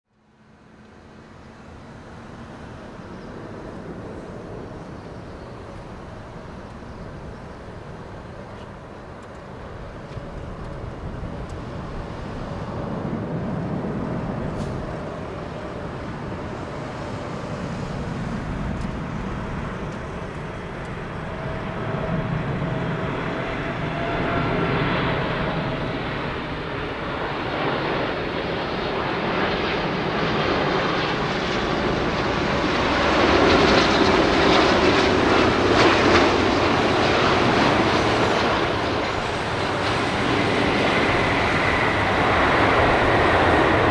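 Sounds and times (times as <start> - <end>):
jet engines rumbling and whining: 0.1 - 43.9.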